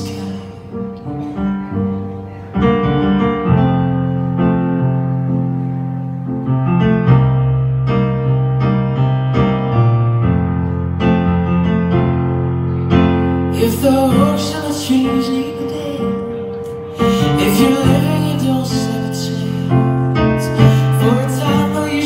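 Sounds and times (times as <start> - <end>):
low piano chords: 0.0 - 22.0.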